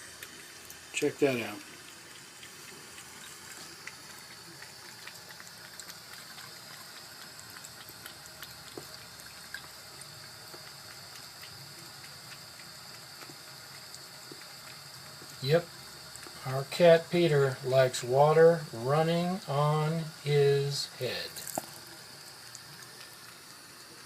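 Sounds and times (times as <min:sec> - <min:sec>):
water dripping: 0:00.0 - 0:20.3, 0:21.0 - 0:24.0
tap water running and splashing: 0:00.0 - 0:24.0.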